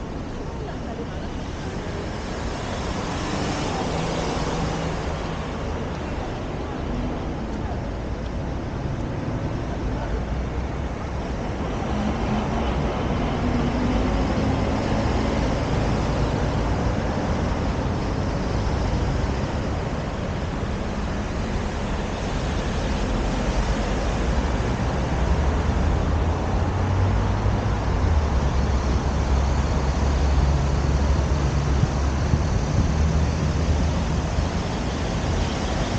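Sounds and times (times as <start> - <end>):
cars and buses passing: 0.0 - 35.9
deep traffic rumble: 0.0 - 35.9.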